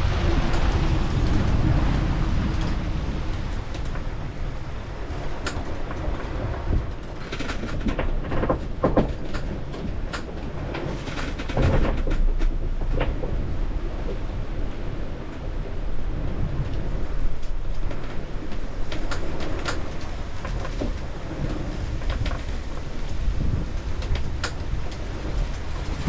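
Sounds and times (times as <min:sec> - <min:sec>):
boat knocks and creaks: 0:00.0 - 0:26.0
wind and water rushing: 0:00.0 - 0:26.0.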